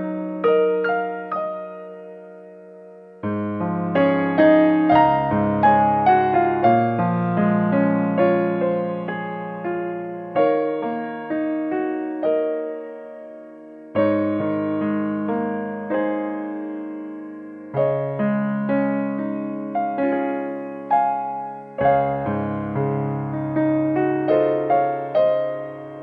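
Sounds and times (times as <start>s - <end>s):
slow gentle piano music: 0.0s - 26.0s.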